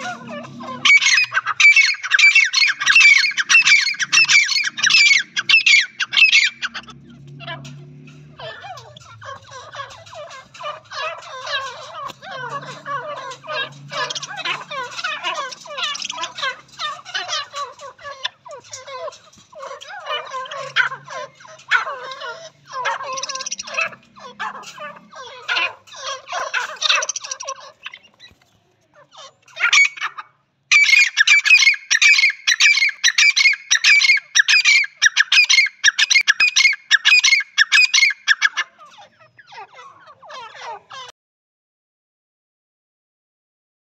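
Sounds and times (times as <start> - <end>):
bird repeated loud call: 0.0 - 28.4, 29.3 - 39.4
birds chattering: 0.0 - 41.1.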